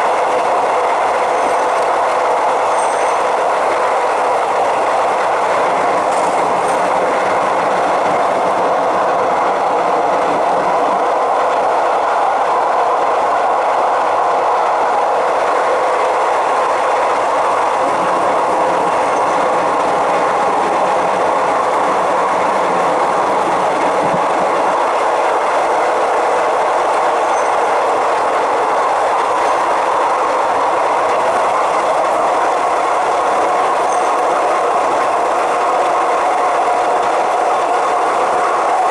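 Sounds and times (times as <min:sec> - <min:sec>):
train wheels running on rails: 0:00.0 - 0:38.9.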